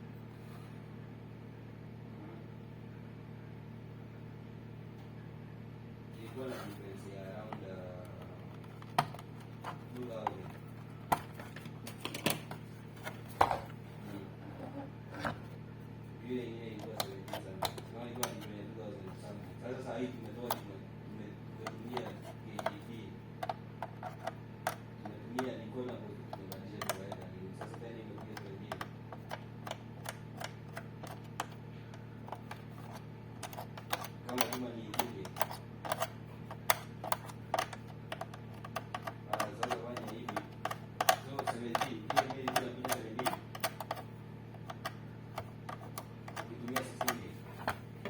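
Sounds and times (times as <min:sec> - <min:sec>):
low electrical hum: 0:00.0 - 0:48.0.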